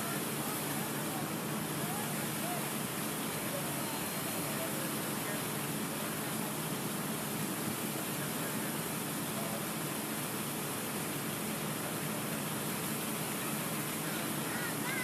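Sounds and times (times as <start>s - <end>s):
fountain water running: 0.0s - 15.0s.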